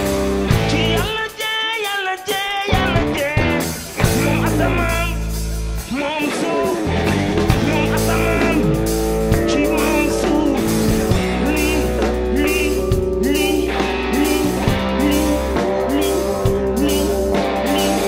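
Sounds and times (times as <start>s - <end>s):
bass guitar: 0.0s - 1.4s, 2.6s - 18.0s
drum kit: 0.0s - 18.0s
electric guitar: 0.0s - 18.0s.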